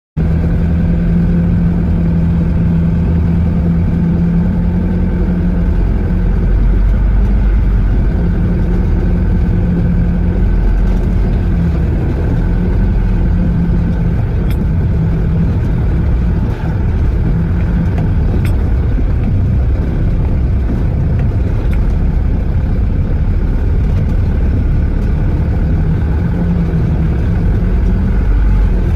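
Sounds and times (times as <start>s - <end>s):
heavy diesel engine humming: 0.2s - 28.9s.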